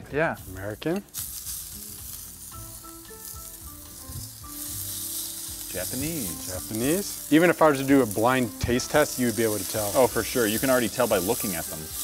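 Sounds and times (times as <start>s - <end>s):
steak sizzling in a pan: 0.2s - 12.0s.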